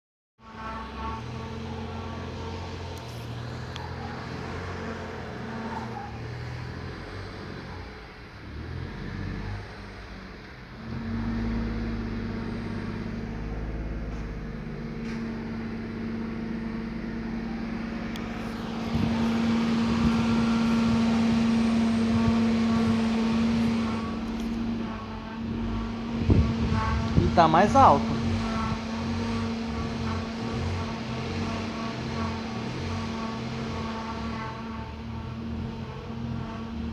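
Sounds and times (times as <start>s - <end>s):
car engine running: 0.4s - 36.9s
reversing car whine: 0.4s - 36.9s.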